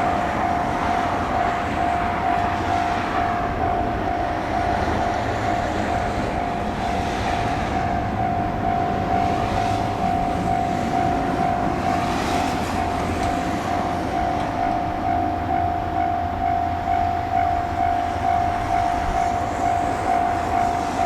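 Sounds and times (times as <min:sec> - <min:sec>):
level crossing warning bell: 0:00.0 - 0:21.0
train running past: 0:00.0 - 0:21.0.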